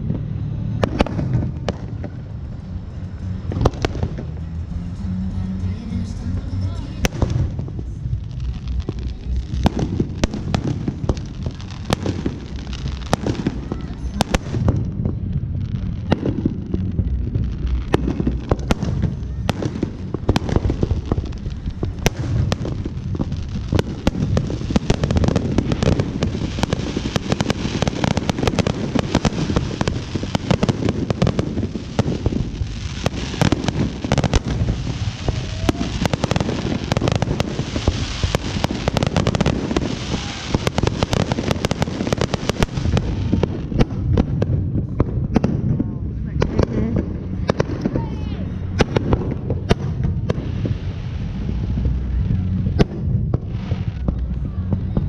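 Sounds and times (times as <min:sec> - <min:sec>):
fireworks bangs and crackles: 0:00.0 - 0:55.0
low rumble: 0:00.0 - 0:55.0.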